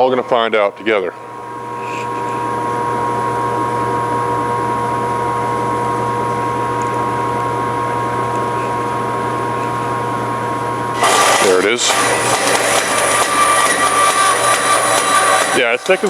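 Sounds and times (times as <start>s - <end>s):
bandsaw running with whine: 0.0s - 16.0s.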